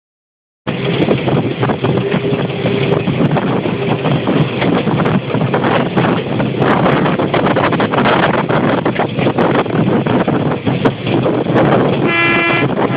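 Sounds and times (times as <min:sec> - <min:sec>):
wheels and carriage rattling: 0:00.7 - 0:12.1
diesel train rumble: 0:00.7 - 0:12.9
wind on microphone: 0:00.7 - 0:12.9.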